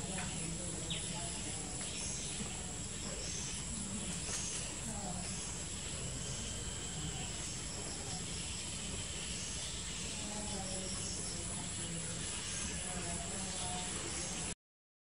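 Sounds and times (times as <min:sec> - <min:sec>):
faint distant voices: 0:00.0 - 0:14.6
high-pitched insect drone: 0:02.0 - 0:14.4.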